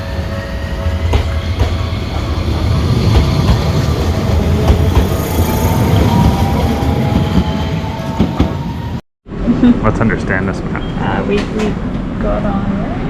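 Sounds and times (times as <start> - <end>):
streetcar rumbling on rails: 0.0 - 13.0.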